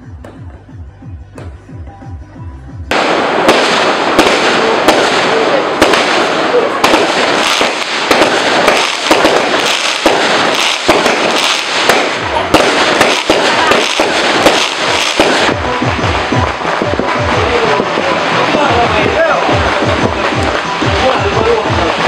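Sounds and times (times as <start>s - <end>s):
fireworks and firecrackers banging: 0.0s - 1.7s, 2.9s - 22.0s.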